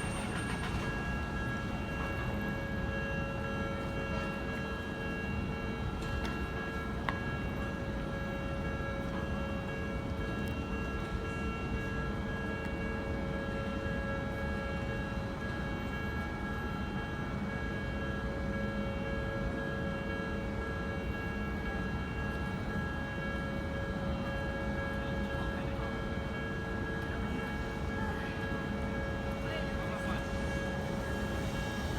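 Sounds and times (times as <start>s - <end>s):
train rumbling: 0.0s - 31.9s.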